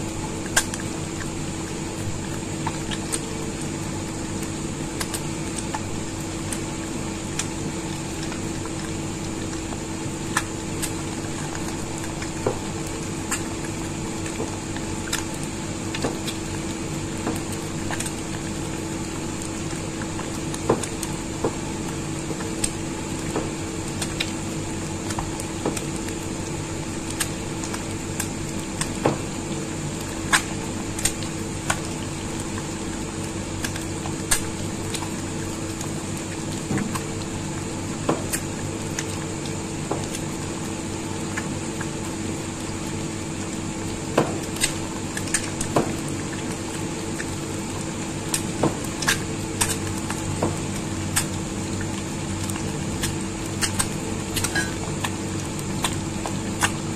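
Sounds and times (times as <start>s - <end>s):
eggs sizzling in oil: 0.0s - 56.9s
steady hum: 0.0s - 56.9s.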